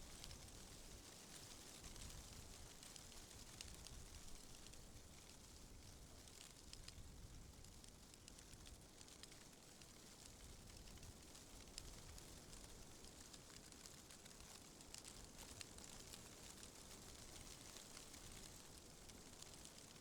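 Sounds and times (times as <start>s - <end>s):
leaves rustling in wind: 0.0s - 20.0s.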